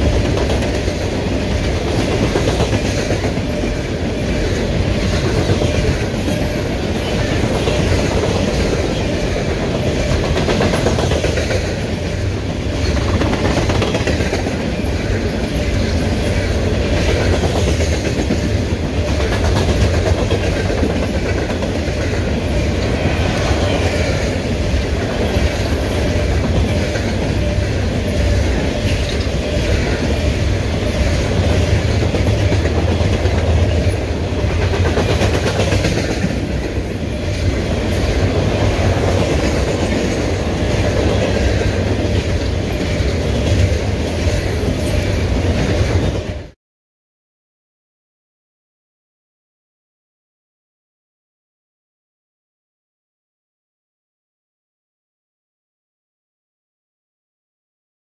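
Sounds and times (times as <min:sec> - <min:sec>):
freight train wheels on rails: 0:00.0 - 0:46.6.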